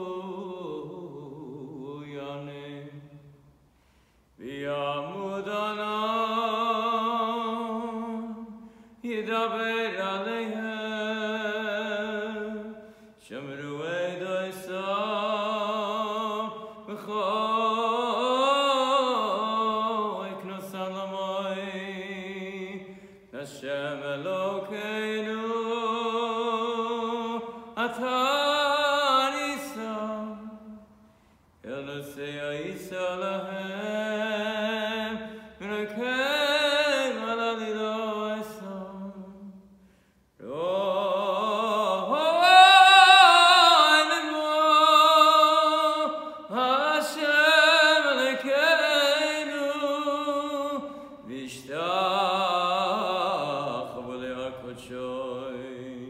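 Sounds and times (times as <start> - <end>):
man singing unaccompanied chant: 0.0 - 3.2, 4.4 - 30.8, 31.6 - 39.6, 40.4 - 56.0.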